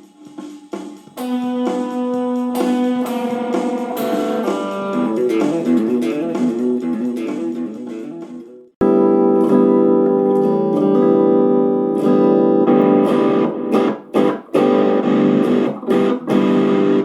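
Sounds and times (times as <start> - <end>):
guitar playing: 1.2 - 17.0.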